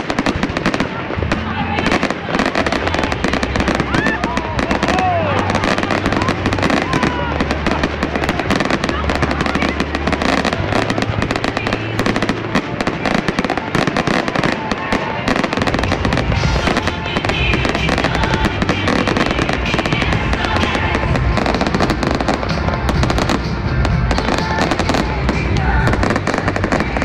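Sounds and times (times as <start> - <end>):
fireworks bursting and crackling: 0.0 - 27.0
music playing: 0.0 - 27.0.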